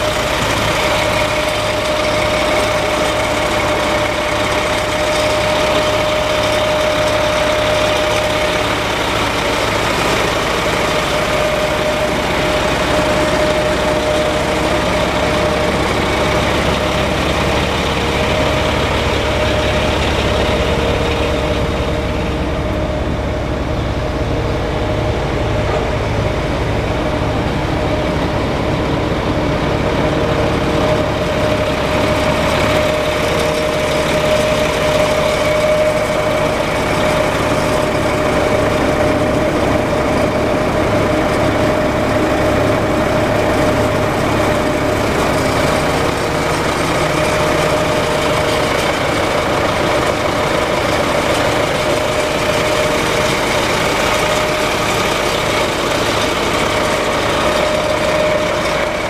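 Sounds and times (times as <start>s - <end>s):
constant whine: 0.0s - 59.0s
diesel truck engine idling: 0.0s - 59.0s.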